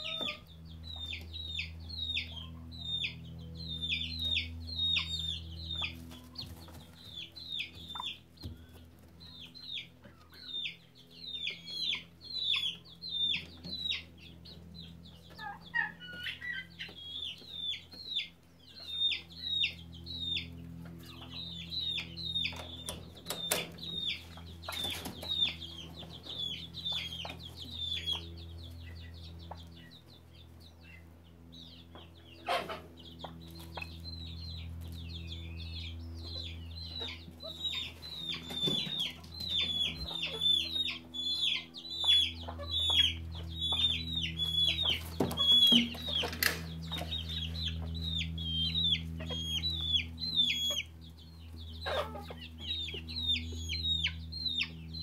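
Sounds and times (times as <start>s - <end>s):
chicks peeping: 0.0s - 55.0s
steady low hum: 0.0s - 55.0s.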